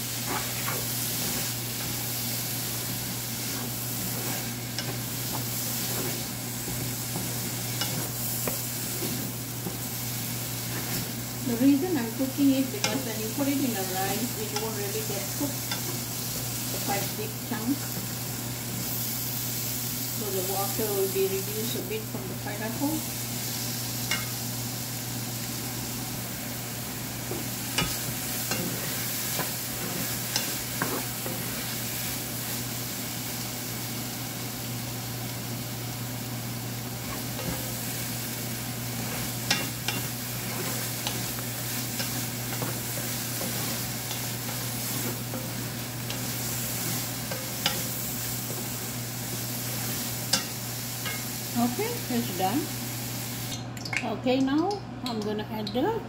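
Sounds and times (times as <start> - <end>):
fruit sizzling in frying pan: 0.0 - 55.9.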